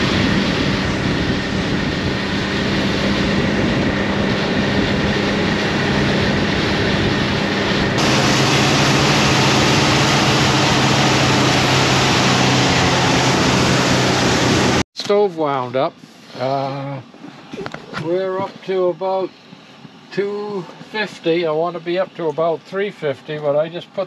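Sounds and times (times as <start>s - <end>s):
snowmobile engines running: 0.0s - 24.0s
track and wind hiss: 0.0s - 24.0s.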